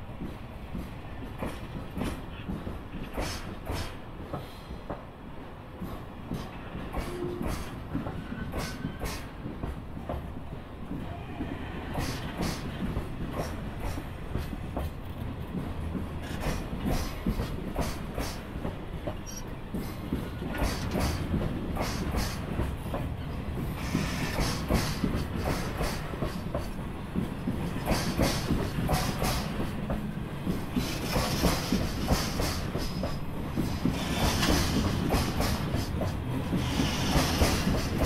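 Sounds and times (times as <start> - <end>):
train rumble: 0.0 - 38.0
train wheels clacking on rail joints: 0.0 - 38.0.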